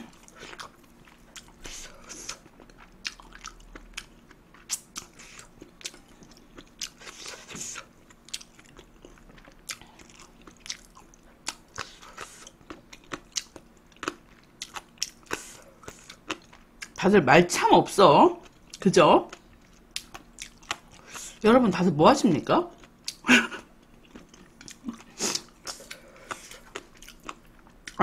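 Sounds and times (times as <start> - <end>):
person chewing food: 0.0 - 17.0, 18.4 - 21.4, 22.7 - 28.0.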